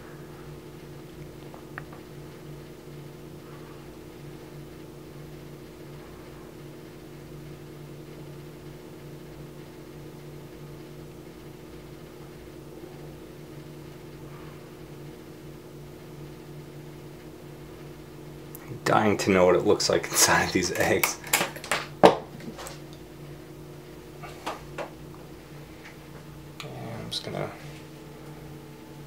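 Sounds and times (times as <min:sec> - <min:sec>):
small fan motor humming: 0:00.0 - 0:29.0.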